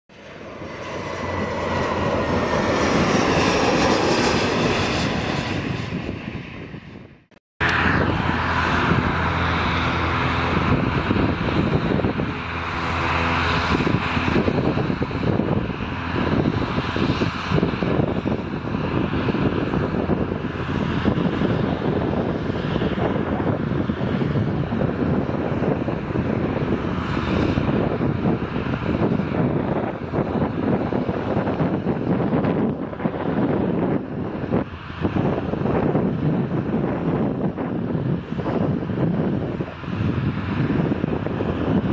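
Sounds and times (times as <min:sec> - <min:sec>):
aircraft passing overhead: 0:00.1 - 0:41.9
jet engines rumbling: 0:00.1 - 0:41.9.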